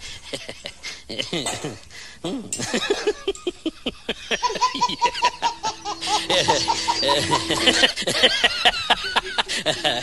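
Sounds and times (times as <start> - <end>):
laugh track: 0.0 - 10.0.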